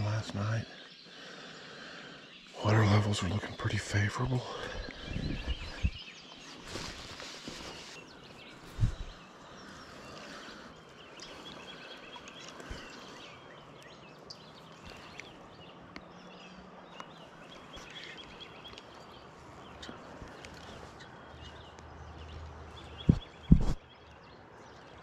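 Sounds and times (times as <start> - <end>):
low outdoor hush: 0.0 - 23.9
songbirds chirping: 0.0 - 25.0.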